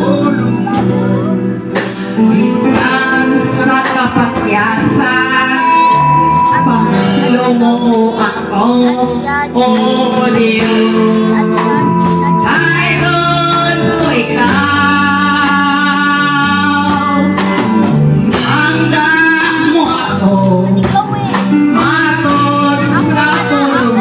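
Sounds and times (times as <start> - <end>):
electric guitar: 0.0 - 24.0
high percussion beat: 0.0 - 24.0
live band playing: 0.0 - 24.0
women singing into microphones: 2.3 - 24.0.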